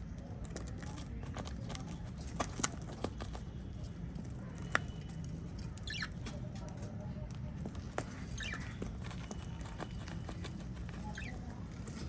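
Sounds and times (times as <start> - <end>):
parrots pecking at seed: 0.0 - 12.0.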